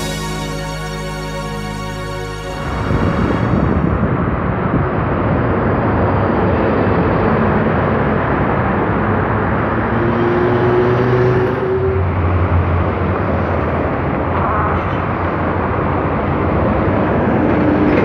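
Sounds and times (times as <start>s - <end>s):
bus engines passing: 0.0s - 18.0s
traffic noise: 2.6s - 18.0s.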